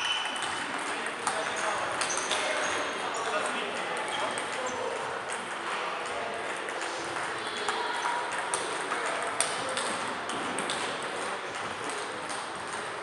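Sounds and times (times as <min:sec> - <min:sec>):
hall hubbub: 0:00.0 - 0:13.0
table tennis balls clicking: 0:00.0 - 0:13.0.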